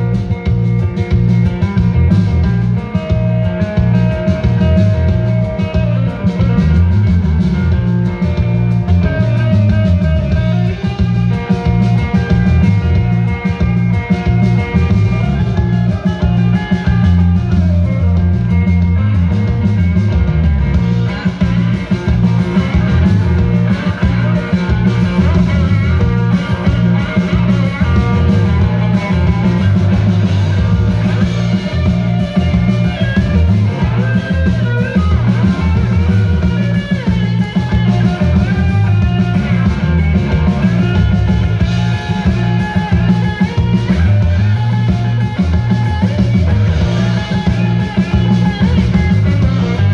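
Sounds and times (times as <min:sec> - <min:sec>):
drums: 0:00.0 - 0:49.9
electric bass: 0:00.0 - 0:49.9
electric guitar lead with bent notes: 0:00.0 - 0:49.9.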